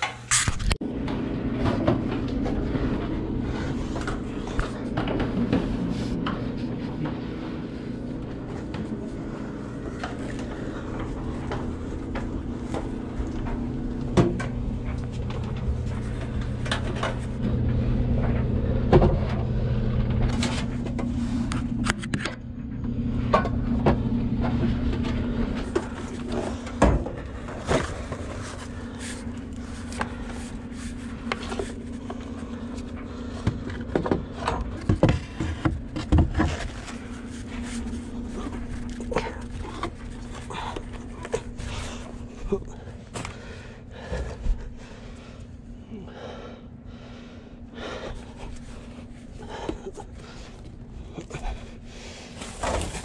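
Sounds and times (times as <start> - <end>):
fan parts knocking and scraping: 0.0 - 22.4, 23.2 - 45.0, 48.1 - 53.0
steady low hum: 0.0 - 53.0.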